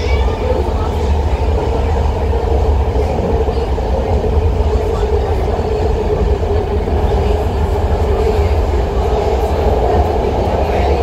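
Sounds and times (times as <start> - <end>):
low rumble of train wheels: 0.0 - 11.0.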